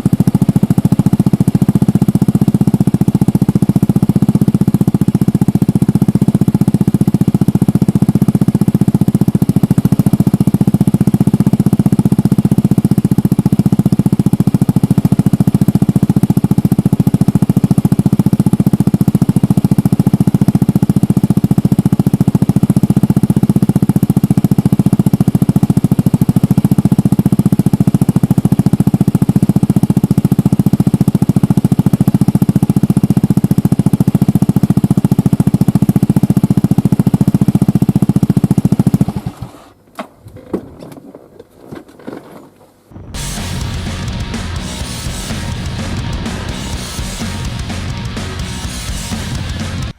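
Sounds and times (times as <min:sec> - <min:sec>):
scooter engine idling: 0:00.0 - 0:39.9, 0:42.9 - 0:49.9.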